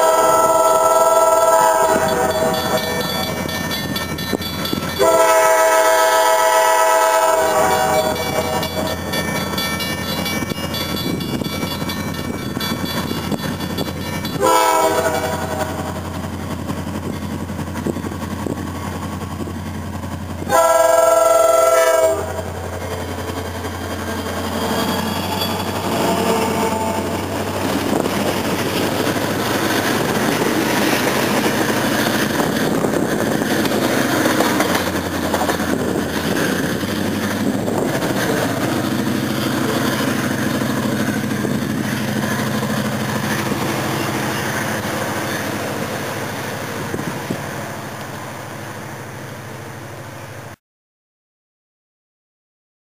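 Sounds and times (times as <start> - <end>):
diesel locomotives passing: 0.0 - 50.6.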